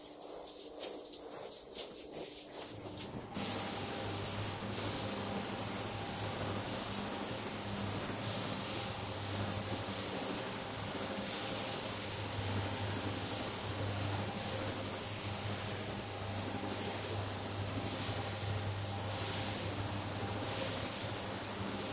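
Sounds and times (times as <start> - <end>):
wet brush hiss: 0.0 - 21.9.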